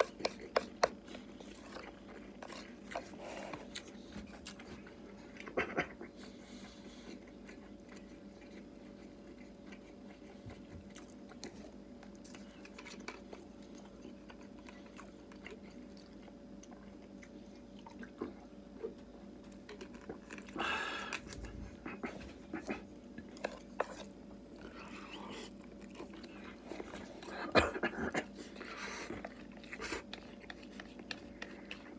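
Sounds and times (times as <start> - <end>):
man chewing food: 0.0 - 31.9
steady low hum: 0.0 - 31.9.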